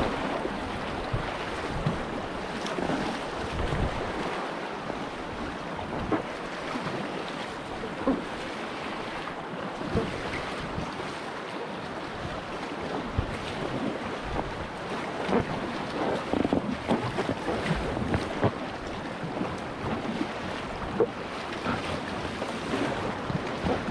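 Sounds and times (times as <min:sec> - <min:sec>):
paddle splashing into water: 0:00.0 - 0:05.1, 0:05.8 - 0:23.9
river water rushing: 0:00.0 - 0:23.9.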